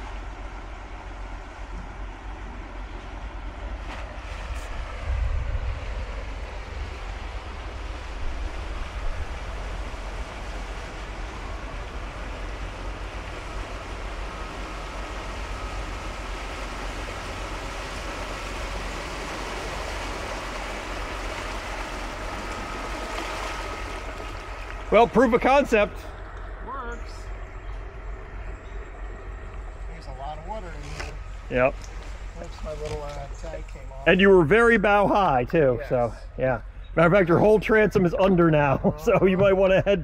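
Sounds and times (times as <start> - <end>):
rushing water: 0.0 - 39.8
wind gusts: 0.0 - 40.0.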